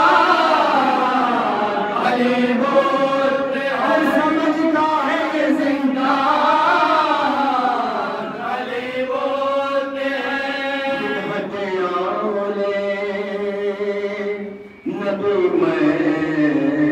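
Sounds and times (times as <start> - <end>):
men singing along: 0.0 - 16.9
person chanting into a microphone: 0.0 - 16.9.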